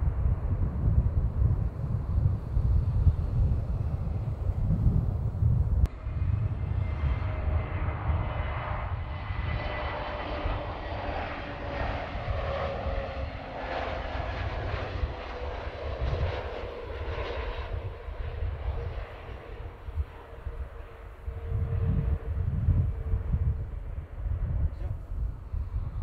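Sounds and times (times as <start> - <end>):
jet airliner on approach: 0.0 - 26.0.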